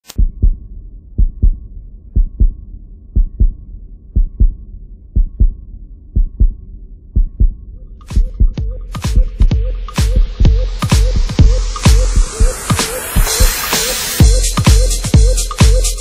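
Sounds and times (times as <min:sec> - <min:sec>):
heartbeat thumps: 0:00.0 - 0:15.9
electronic music: 0:00.0 - 0:16.0.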